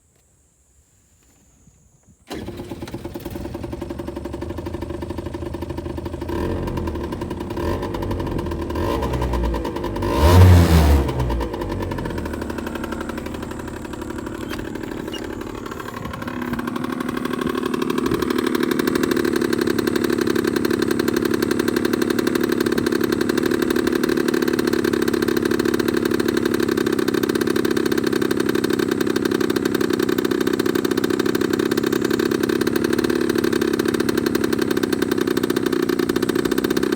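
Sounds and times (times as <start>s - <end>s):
scooter engine revving: 2.3s - 36.9s.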